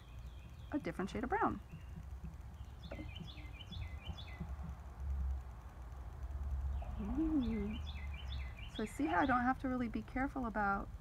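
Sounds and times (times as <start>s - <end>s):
low steady rumble: 0.0s - 11.0s
songbird chirping: 0.0s - 11.0s.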